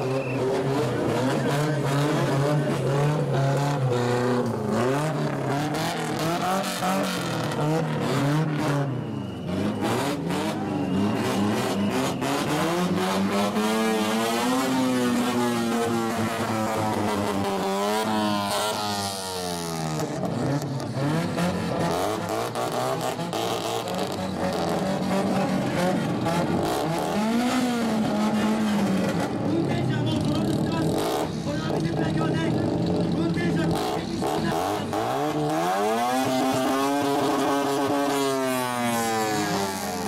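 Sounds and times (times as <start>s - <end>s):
car exhausts revving: 0.0s - 29.5s, 30.1s - 40.0s.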